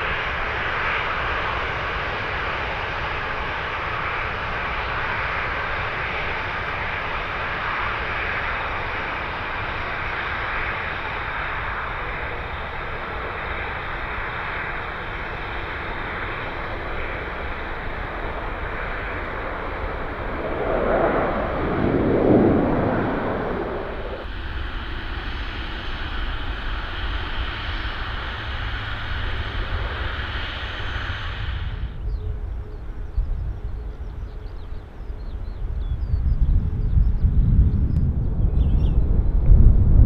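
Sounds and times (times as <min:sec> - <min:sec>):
jet engines roaring: 0:00.0 - 0:35.9
faint high whine: 0:02.9 - 0:38.1.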